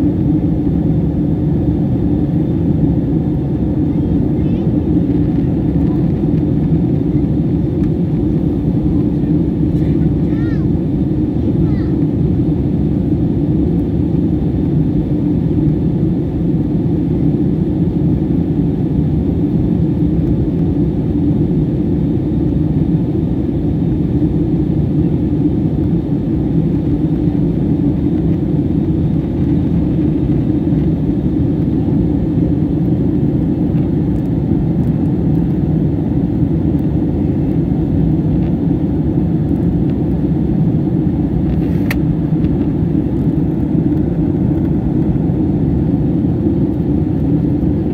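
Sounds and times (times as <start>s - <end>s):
jet cabin roar in flight: 0.0s - 47.9s.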